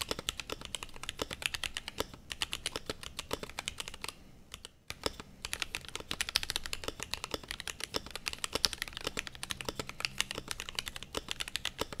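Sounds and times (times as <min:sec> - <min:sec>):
mechanical keyboard clacking: 0:00.0 - 0:12.0.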